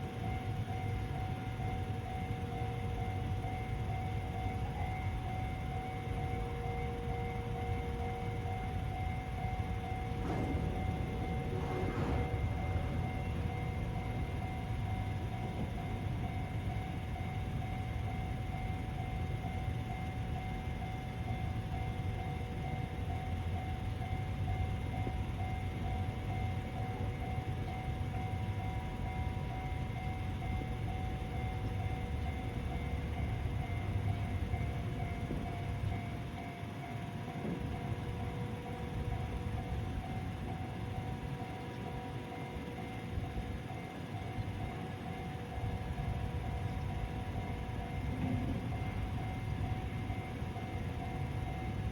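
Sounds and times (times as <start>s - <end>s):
level crossing warning bell: 0.0s - 51.9s
passing train rumble: 0.0s - 51.9s.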